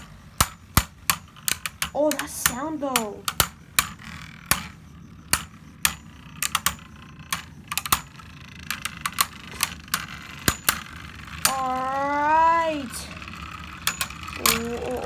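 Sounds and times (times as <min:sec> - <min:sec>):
spinning tops clashing: 0:00.0 - 0:15.0.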